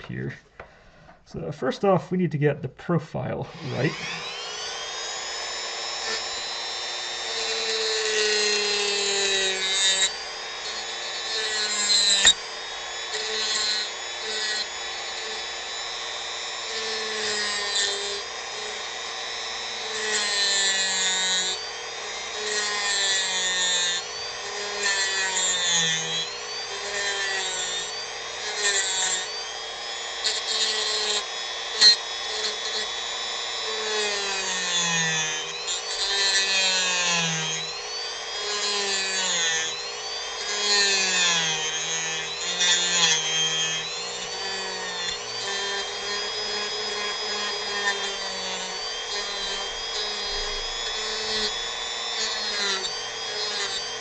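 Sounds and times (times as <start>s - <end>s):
bit grinding into wood: 3.4s - 54.0s
rotary tool whining: 3.4s - 54.0s.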